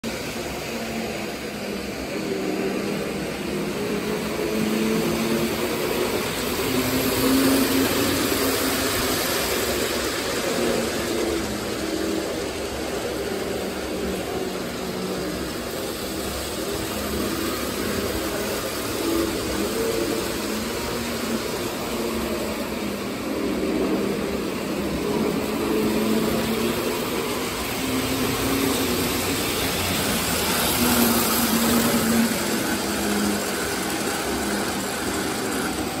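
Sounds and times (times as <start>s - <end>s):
model train running on tracks: 0.0s - 36.0s.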